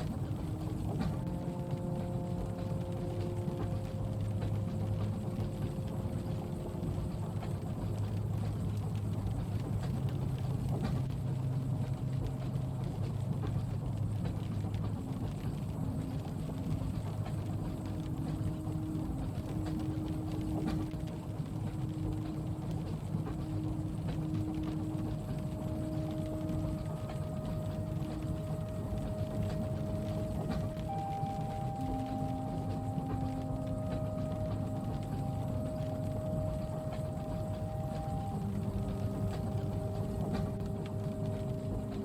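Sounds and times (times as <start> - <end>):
humming drone: 0.0 - 42.0
rain hiss: 0.0 - 42.0
train rumbling: 0.0 - 42.0.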